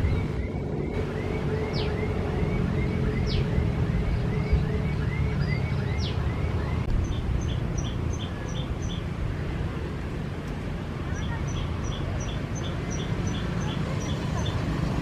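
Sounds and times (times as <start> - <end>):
small birds chirping: 0.0 - 10.1, 11.0 - 15.0
low rumble of wind: 0.0 - 15.0.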